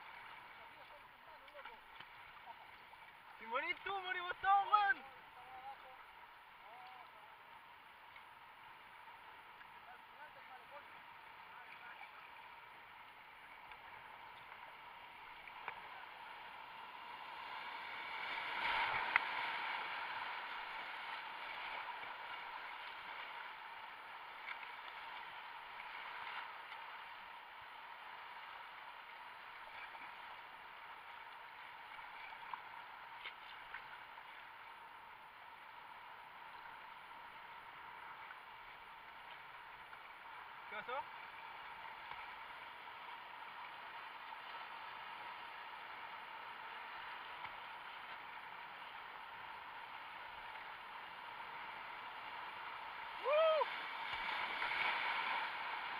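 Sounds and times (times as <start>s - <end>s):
rushing river water: 0.0s - 55.9s.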